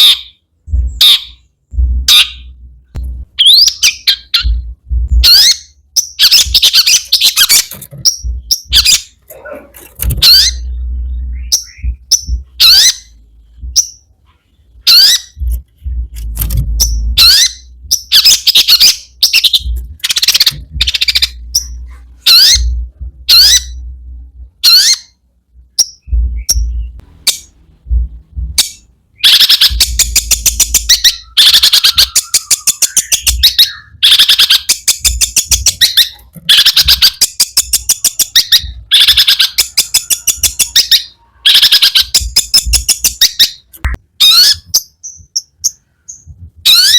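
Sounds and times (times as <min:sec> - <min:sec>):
bird singing sharp chattering calls: 0:00.0 - 0:02.6, 0:03.3 - 0:09.2, 0:10.1 - 0:14.1, 0:14.7 - 0:15.6, 0:16.7 - 0:23.8, 0:24.6 - 0:27.5, 0:28.6 - 0:46.9.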